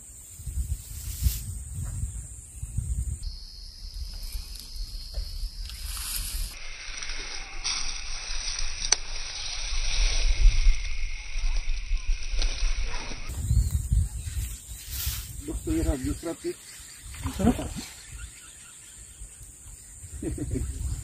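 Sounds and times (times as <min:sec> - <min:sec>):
wind buffeting microphone: 0:00.3 - 0:06.6, 0:09.2 - 0:21.0.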